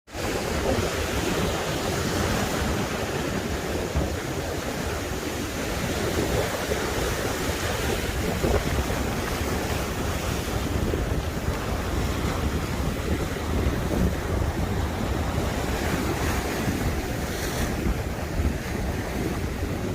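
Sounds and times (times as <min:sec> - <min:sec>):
sea waves surf: 0:00.1 - 0:19.9
wind buffeting microphone: 0:00.1 - 0:19.9.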